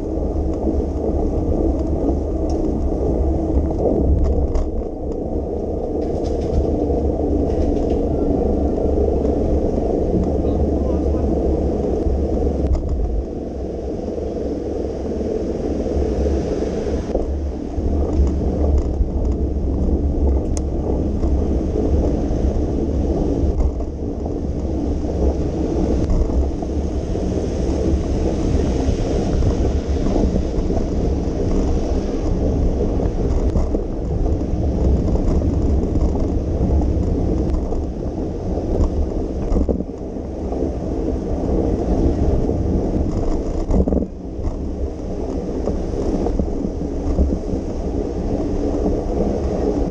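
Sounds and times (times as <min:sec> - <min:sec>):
bicycle tyres on wet street: 0:00.0 - 0:49.9
wind rumble on microphone: 0:00.0 - 0:49.9.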